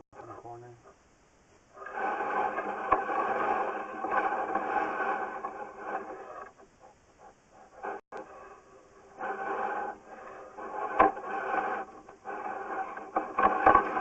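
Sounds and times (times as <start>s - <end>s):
camera scraping along pipe: 1.7s - 14.0s.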